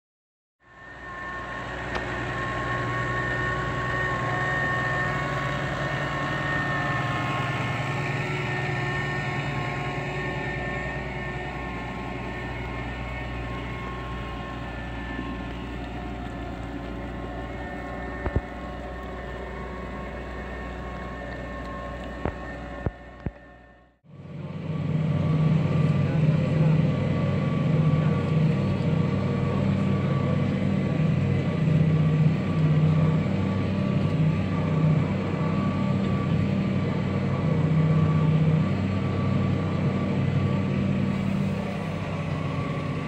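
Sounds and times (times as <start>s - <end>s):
high whine: 0.6s - 43.0s
tractor diesel engine under load: 0.6s - 43.0s.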